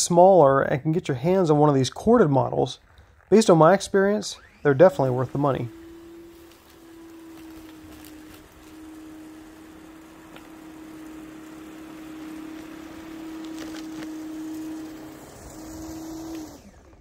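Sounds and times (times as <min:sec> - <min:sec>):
electric snow thrower motor whine: 0:02.9 - 0:17.0.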